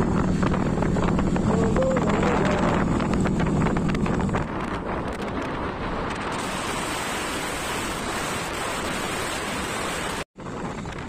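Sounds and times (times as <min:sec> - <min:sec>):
wind rushing on microphone: 0:00.0 - 0:11.0.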